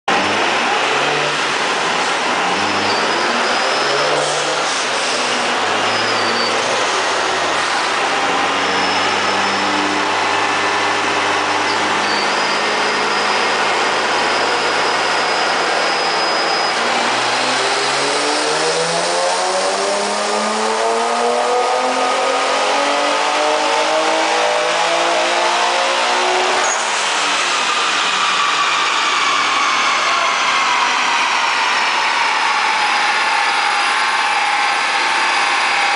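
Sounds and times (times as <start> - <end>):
car engine revving: 0.1 - 29.3.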